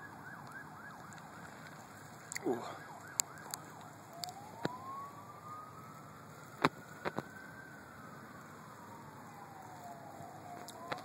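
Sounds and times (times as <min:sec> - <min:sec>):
emergency vehicle siren wailing: 0:00.0 - 0:11.0.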